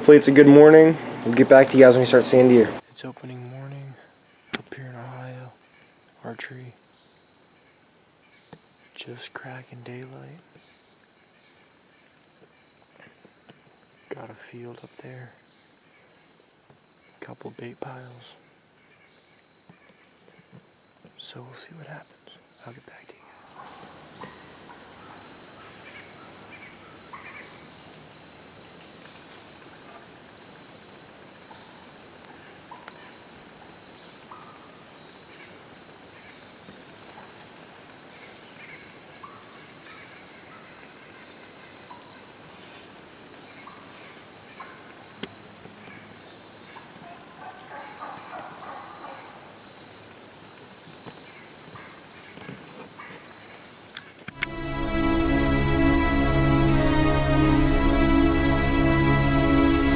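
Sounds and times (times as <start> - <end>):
insect chirp: 0.0 - 56.0
crickets trilling: 0.1 - 54.4.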